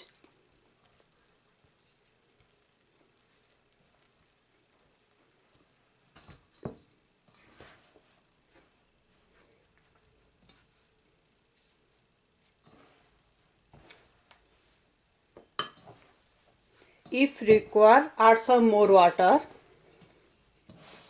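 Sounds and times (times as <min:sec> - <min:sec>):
spatula scraping mixing bowl: 0:00.0 - 0:21.0.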